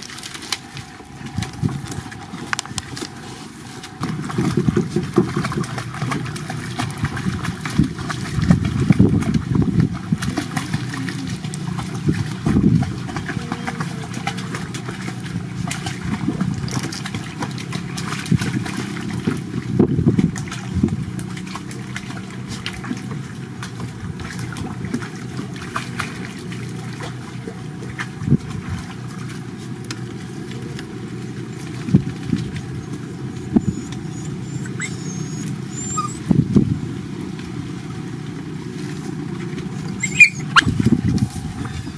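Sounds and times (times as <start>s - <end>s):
motor humming: 0.0s - 41.9s.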